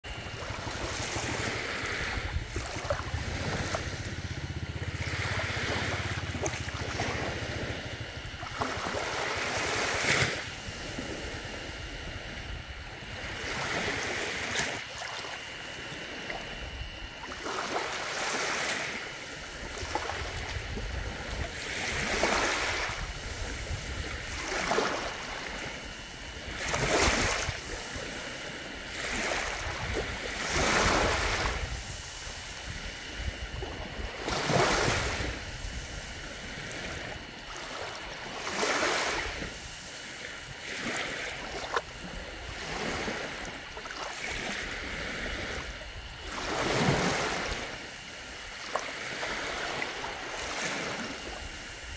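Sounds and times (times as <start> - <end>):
small waves lapping on shore: 0.0 - 51.9.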